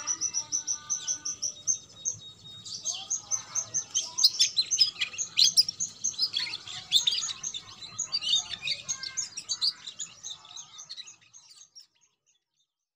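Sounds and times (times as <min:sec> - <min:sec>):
canary singing: 0:00.0 - 0:12.2.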